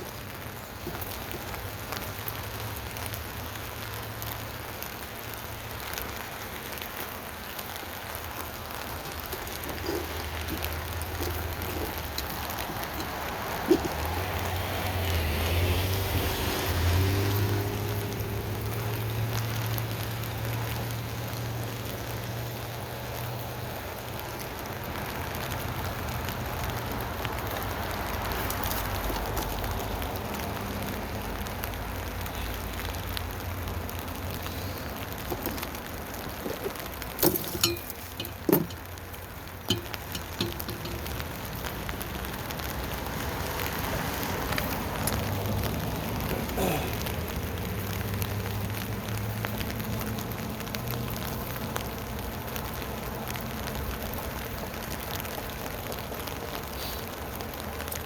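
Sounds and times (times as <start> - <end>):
rain pattering on tent canopy: 0.0 - 58.0.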